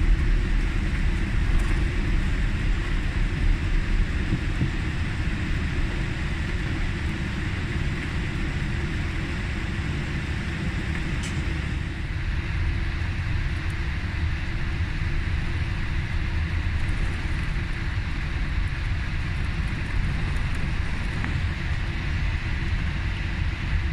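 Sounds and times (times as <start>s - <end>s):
landing gear and engines rumbling: 0.0s - 23.9s.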